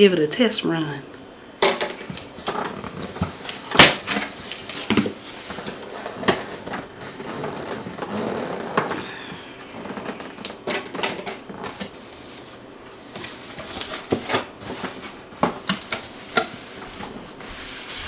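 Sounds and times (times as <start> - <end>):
cardboard rustling and scraping: 1.9 - 18.0.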